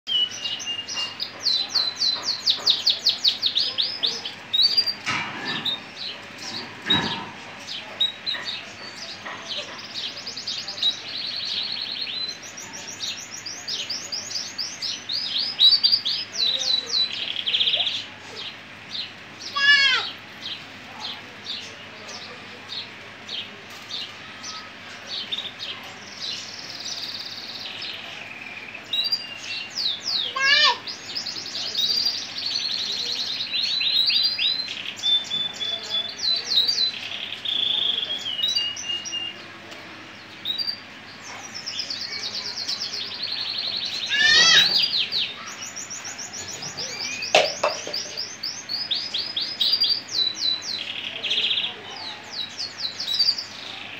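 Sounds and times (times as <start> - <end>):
canary singing: 0.1 - 53.9.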